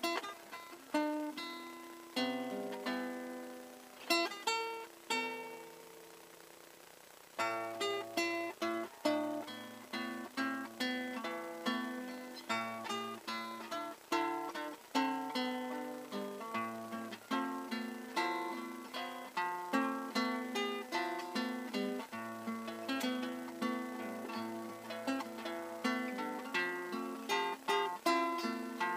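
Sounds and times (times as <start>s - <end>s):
classical guitar melody: 0.0s - 6.2s, 7.4s - 28.9s.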